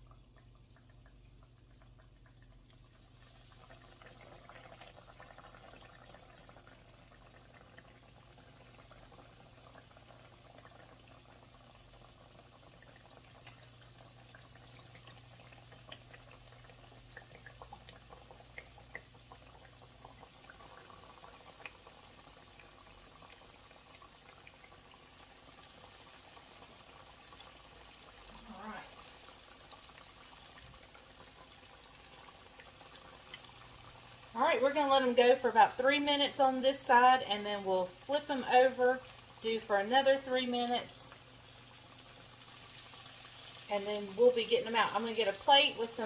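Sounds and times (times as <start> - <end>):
chicken frying in hot oil: 0.0 - 46.0.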